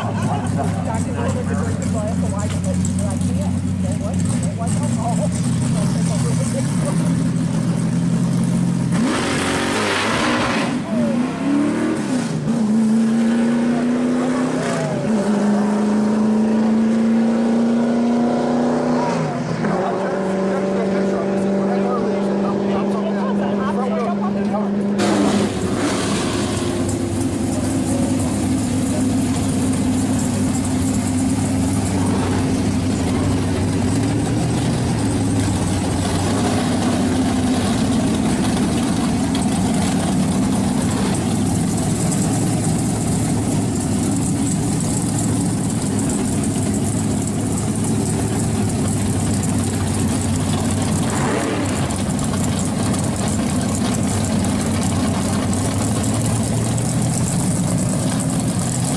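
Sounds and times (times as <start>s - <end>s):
drag car engines idling: 0.0s - 9.0s, 20.6s - 58.9s.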